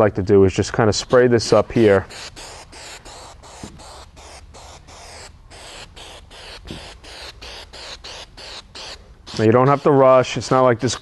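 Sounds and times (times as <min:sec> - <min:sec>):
aerosol can spraying spurts: 0:01.0 - 0:11.0.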